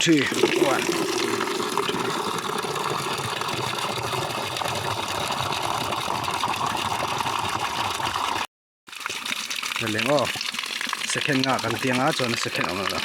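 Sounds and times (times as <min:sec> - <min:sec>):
water gushing into container: 0:00.0 - 0:13.0.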